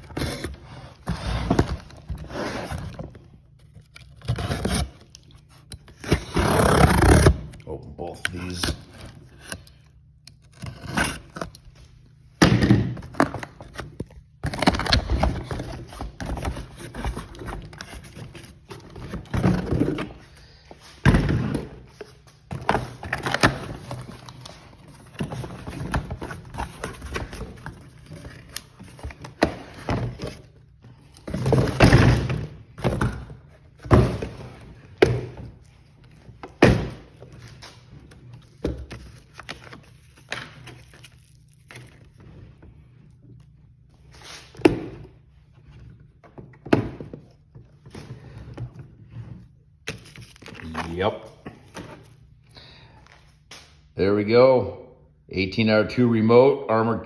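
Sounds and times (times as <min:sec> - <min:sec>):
rustling of boxes: 0:00.0 - 0:07.5, 0:12.9 - 0:53.6.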